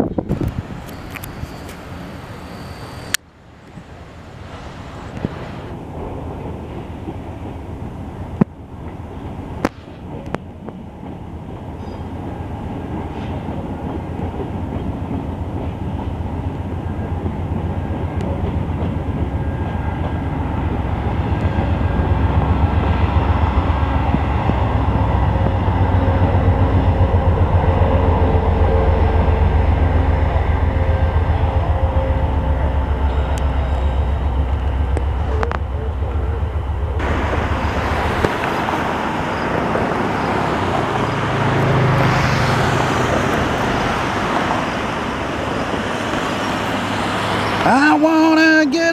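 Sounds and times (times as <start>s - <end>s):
passenger train passing: 0.0s - 48.9s.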